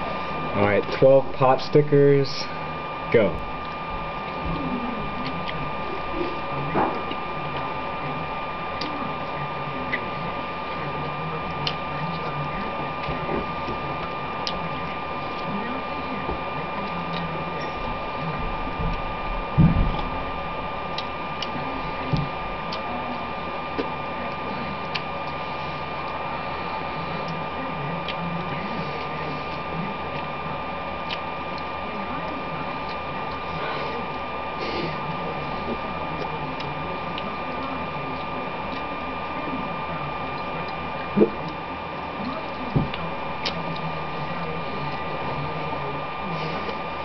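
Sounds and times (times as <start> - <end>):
thin high whine: 0.0 - 47.0.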